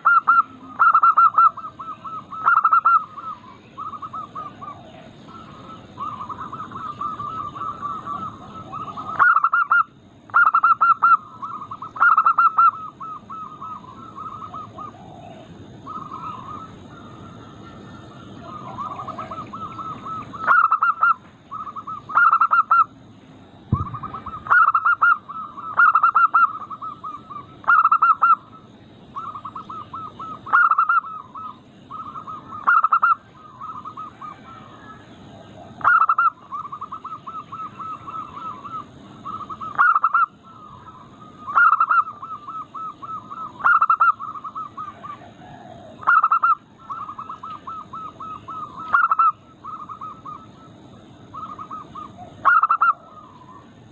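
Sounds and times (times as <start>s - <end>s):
dove cooing: 0.0s - 23.0s, 23.7s - 53.9s.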